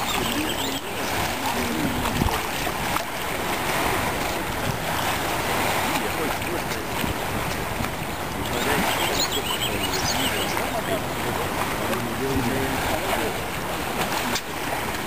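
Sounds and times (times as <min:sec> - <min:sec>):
river water: 0:00.0 - 0:15.0
wind on microphone: 0:00.0 - 0:15.0.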